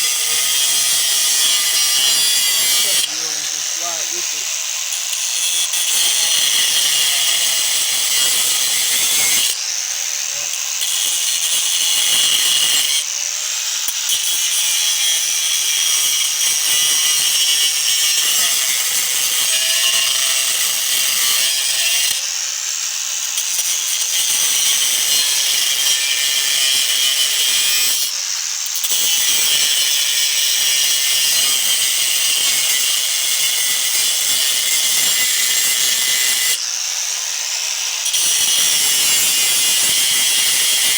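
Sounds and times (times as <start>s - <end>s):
cutting wheel grinding metal: 0.0s - 40.9s.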